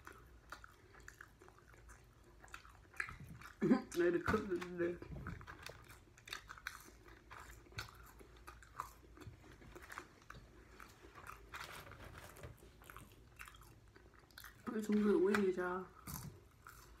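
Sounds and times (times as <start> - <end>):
faint chewing of fried food: 0.0 - 17.0.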